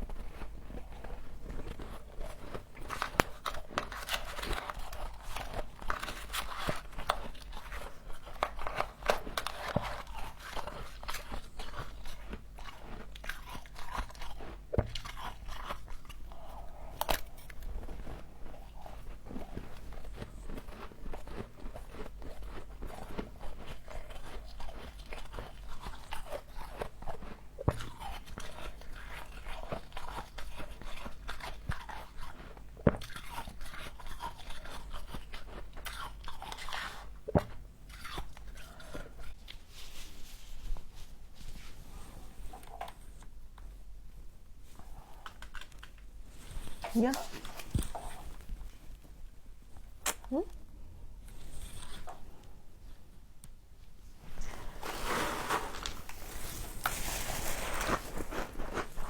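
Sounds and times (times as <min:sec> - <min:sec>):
frost crunching while chewed: 0:00.0 - 0:40.9, 0:44.6 - 0:50.4, 0:51.2 - 0:52.6, 0:54.3 - 0:59.0.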